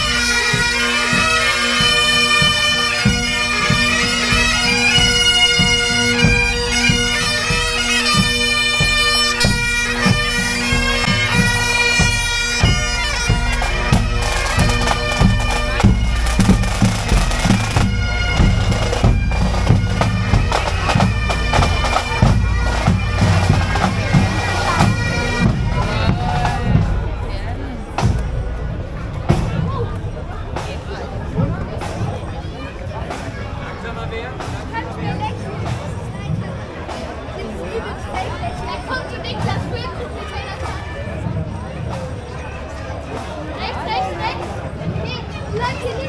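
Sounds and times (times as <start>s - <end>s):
bagpipes with drone: 0.0s - 33.3s, 38.5s - 46.0s
drums beating: 0.0s - 46.0s.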